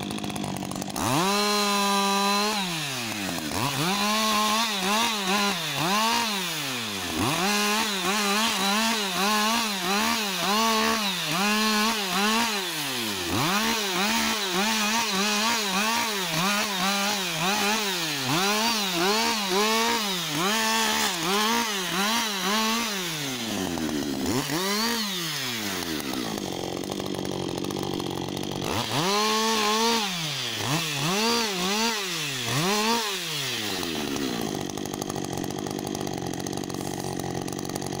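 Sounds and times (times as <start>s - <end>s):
chainsaw revving and idling: 0.0s - 38.0s.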